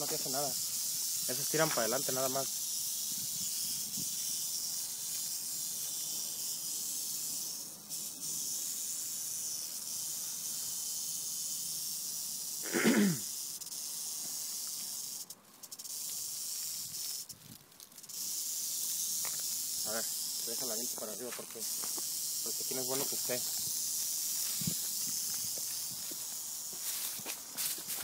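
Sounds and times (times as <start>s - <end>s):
rattlesnake rattling: 0.0s - 28.0s.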